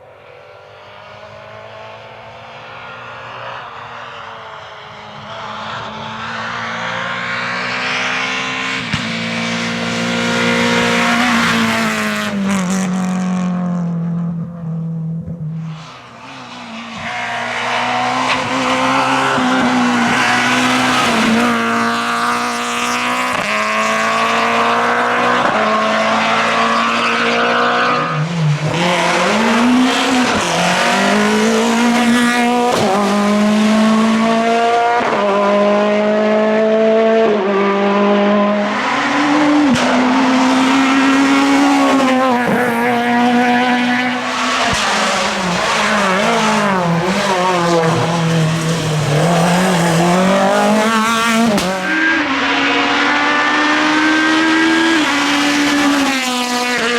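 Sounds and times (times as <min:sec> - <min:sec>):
rally car engine at full throttle: 0:00.0 - 0:56.9.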